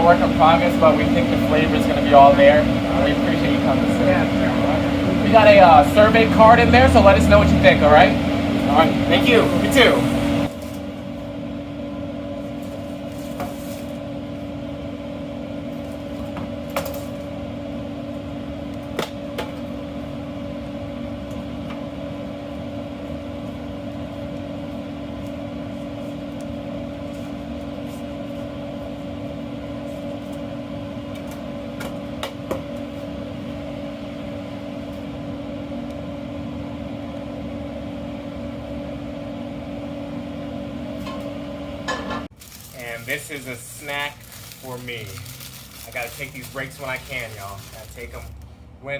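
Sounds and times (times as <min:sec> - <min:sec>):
kitchen machine hum: 0:00.0 - 0:48.9.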